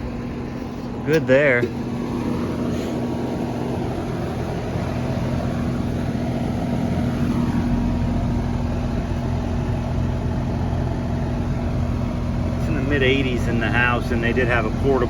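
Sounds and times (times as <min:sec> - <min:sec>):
compressor hum: 0:00.0 - 0:15.0
condenser fan rushing: 0:00.0 - 0:15.0.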